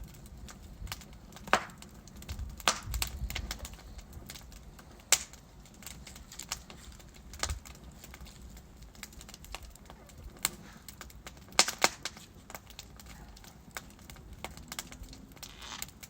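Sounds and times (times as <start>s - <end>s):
logs crackling in fireplace: 0.0s - 16.0s
sharp pops of fire: 0.0s - 16.0s.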